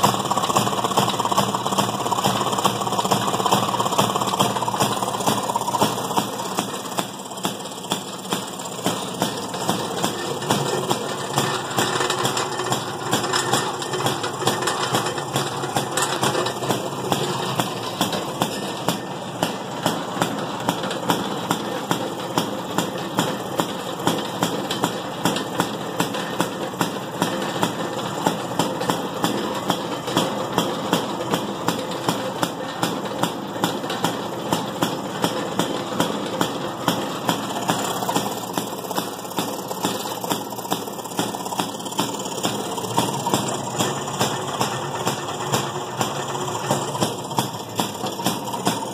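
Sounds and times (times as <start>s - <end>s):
single-cylinder engine knocking: 0.0s - 48.9s.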